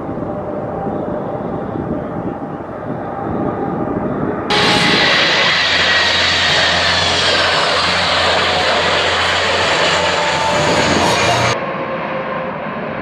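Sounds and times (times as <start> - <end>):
falling engine whine: 0.0 - 13.0
jet engines roaring: 0.0 - 13.0.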